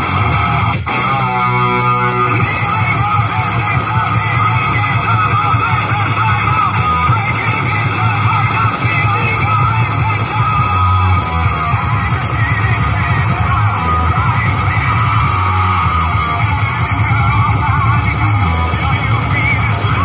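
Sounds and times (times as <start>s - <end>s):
loud music with heavy bass: 0.0s - 20.0s
person singing: 0.0s - 20.0s.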